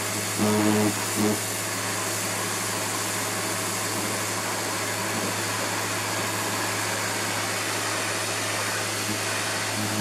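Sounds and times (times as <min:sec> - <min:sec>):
pressure washer motor humming: 0:00.0 - 0:10.0
water jet spraying on plastic: 0:00.0 - 0:10.0.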